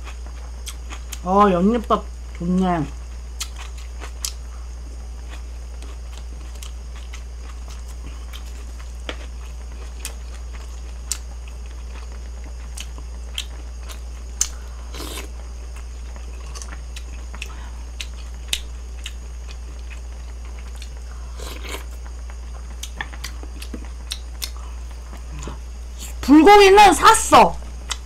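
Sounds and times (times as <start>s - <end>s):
chewing and mouth sounds: 0.0s - 1.2s, 3.4s - 4.4s, 5.2s - 26.2s
steady low hum: 0.0s - 28.0s.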